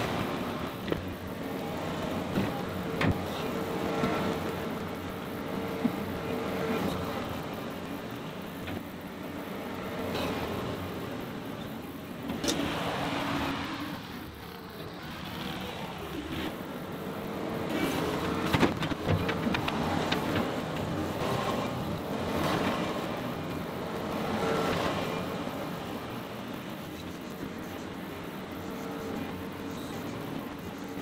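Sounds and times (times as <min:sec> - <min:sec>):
loader diesel engine: 0:00.0 - 0:31.0.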